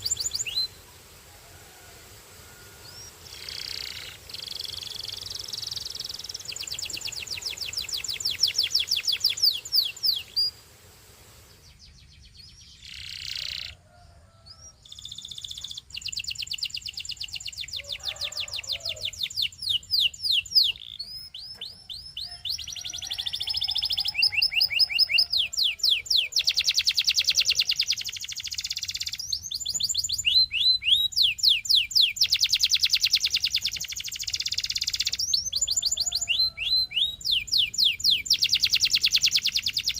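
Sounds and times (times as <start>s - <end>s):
canary singing trills: 0.0s - 0.9s, 2.6s - 10.7s, 11.5s - 39.9s.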